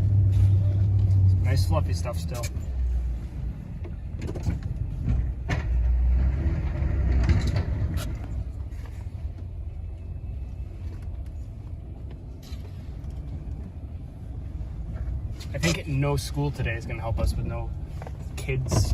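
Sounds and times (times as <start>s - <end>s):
truck engine and road rumble: 0.0s - 18.9s.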